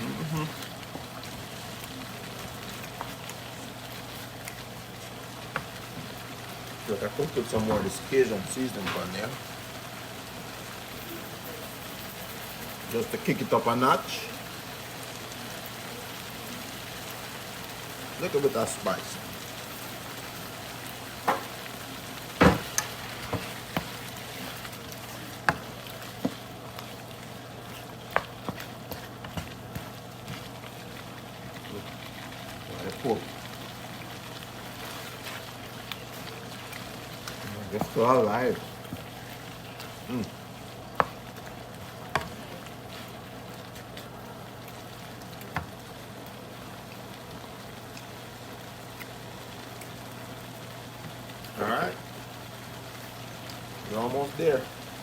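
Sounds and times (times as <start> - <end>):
meat sizzling in a pan: 0.0 - 55.0.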